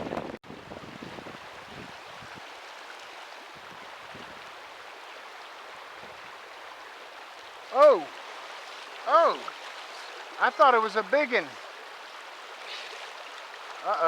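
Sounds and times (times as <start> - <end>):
mountain stream flowing: 0.0 - 14.0.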